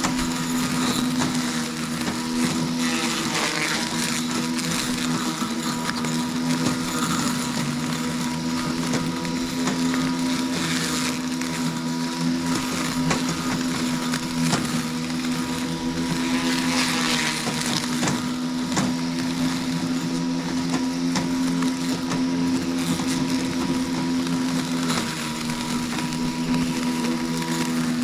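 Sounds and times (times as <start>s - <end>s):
lawnmower motor humming: 0.0s - 28.0s.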